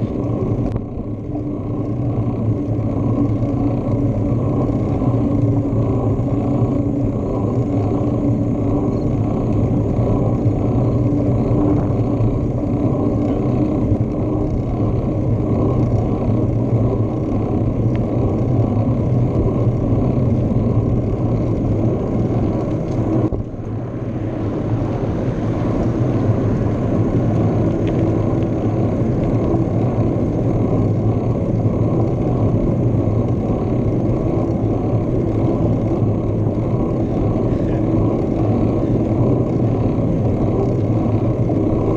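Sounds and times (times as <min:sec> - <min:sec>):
tyre and road noise: 0:00.0 - 0:41.9
wind buffeting microphone: 0:00.0 - 0:41.9.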